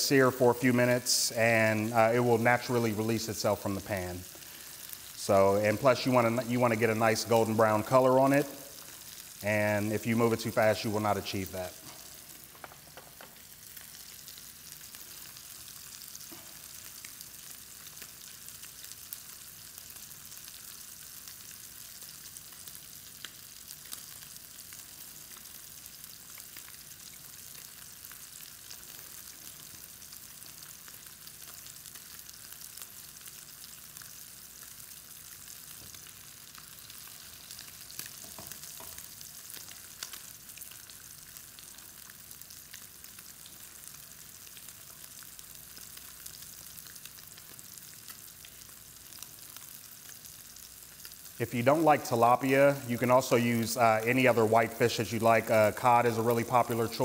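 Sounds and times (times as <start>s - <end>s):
fish sizzling in oil: 0.1s - 57.0s.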